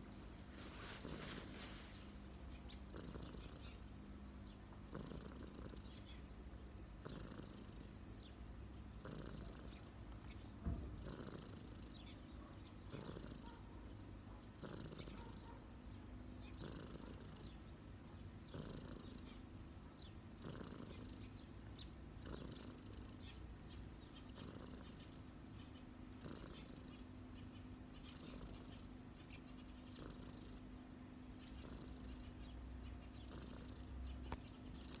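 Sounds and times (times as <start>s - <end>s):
cat purring: 0.0s - 6.2s, 6.9s - 8.3s, 8.9s - 10.0s, 10.6s - 15.7s, 16.4s - 17.7s, 18.4s - 30.8s, 31.4s - 35.0s.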